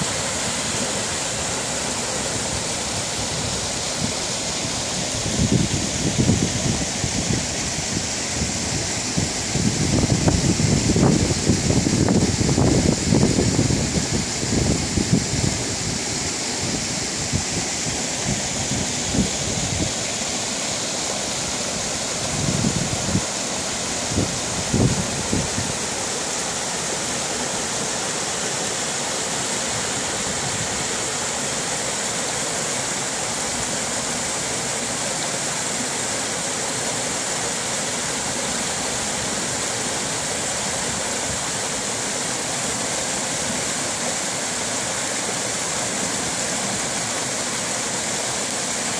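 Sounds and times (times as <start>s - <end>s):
water rushing over rocks: 0.0s - 48.9s.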